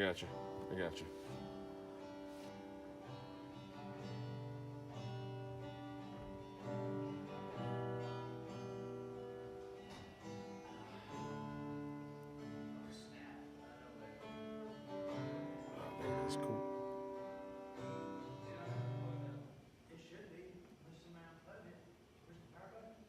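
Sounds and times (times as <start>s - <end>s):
acoustic guitar strumming: 0.0s - 19.6s.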